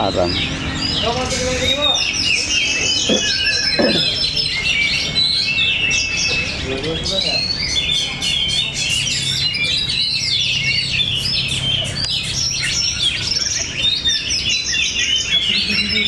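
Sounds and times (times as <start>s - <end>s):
birds singing whistled phrases: 0.0s - 16.0s.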